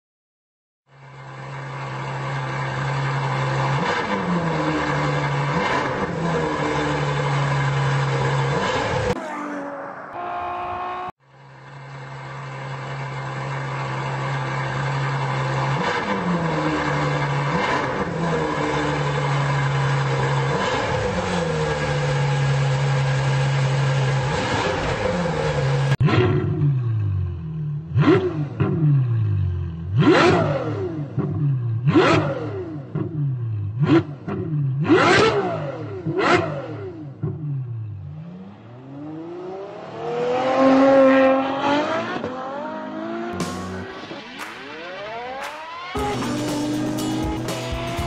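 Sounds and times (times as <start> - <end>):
car engine revving: 1.5 - 11.2, 11.9 - 48.0.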